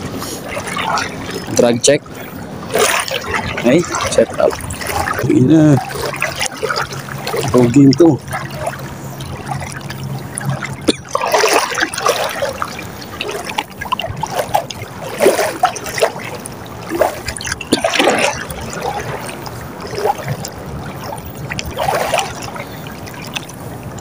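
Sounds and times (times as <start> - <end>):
wading through sloshing seawater: 0.0 - 24.0.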